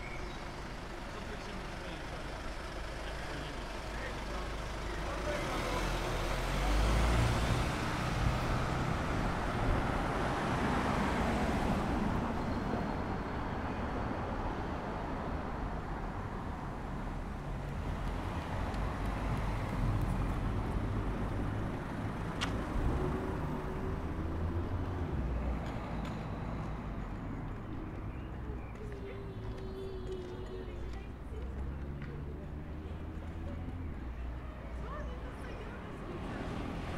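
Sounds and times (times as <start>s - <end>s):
street traffic hum: 0.0s - 36.9s.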